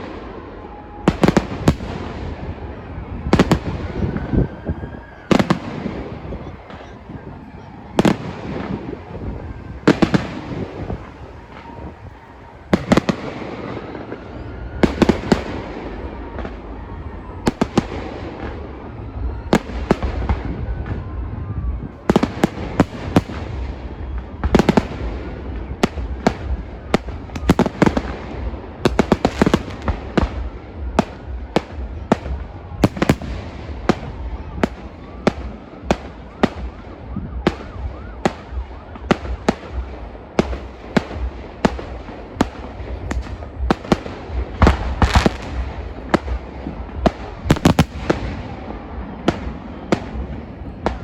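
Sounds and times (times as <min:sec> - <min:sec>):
fireworks bangs: 0:00.0 - 0:51.0.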